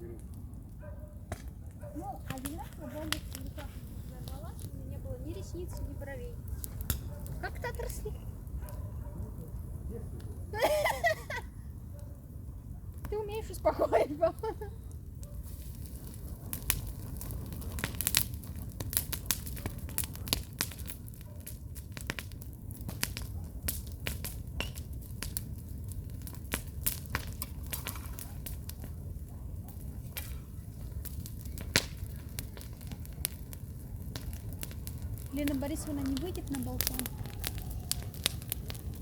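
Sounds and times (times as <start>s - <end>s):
burning logs popping: 0.0s - 39.0s
campfire crackling: 0.0s - 39.0s
low rumble of flames: 0.0s - 39.0s.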